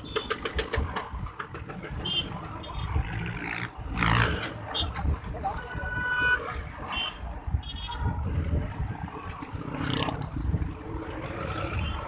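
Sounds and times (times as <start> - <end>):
street traffic: 0.0 - 12.0
wind buffeting microphone: 0.0 - 12.0.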